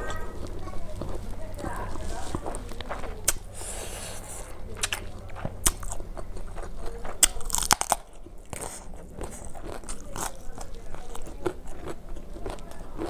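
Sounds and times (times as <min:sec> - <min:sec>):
sharp crunches: 0:00.0 - 0:12.6
person chewing: 0:00.0 - 0:13.0.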